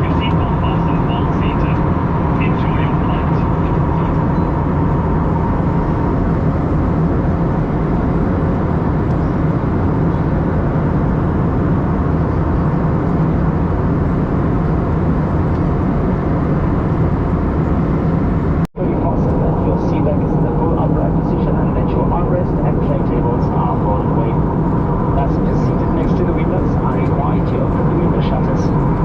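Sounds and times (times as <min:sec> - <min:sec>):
jet airliner cabin roar: 0:00.0 - 0:29.0.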